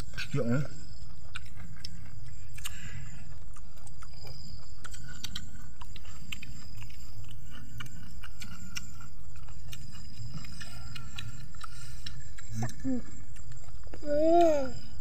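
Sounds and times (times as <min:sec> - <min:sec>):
crunchy chewing of vegetables: 0:00.0 - 0:15.0.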